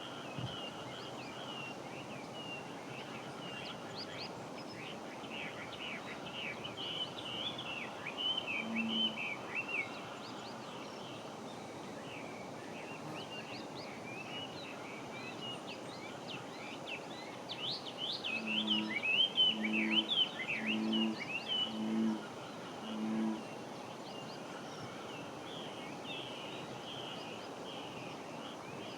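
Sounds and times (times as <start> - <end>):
background hiss: 5.7 - 28.9.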